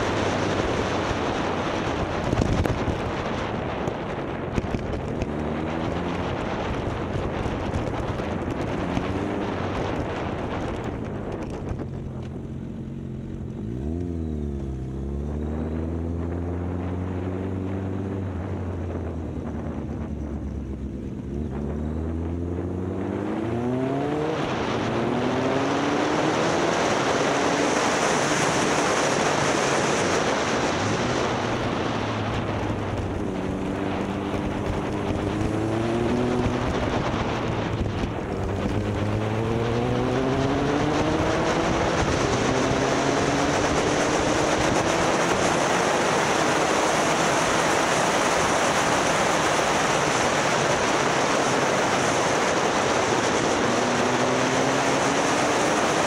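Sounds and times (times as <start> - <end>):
wind noise on microphone: 0.0 - 12.8, 13.4 - 56.0
motorcycle engine revving: 0.0 - 56.0.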